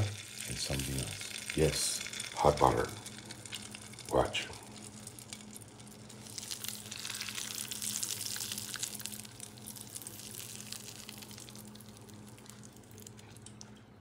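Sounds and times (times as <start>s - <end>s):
butter sizzling on steak: 0.0s - 13.7s.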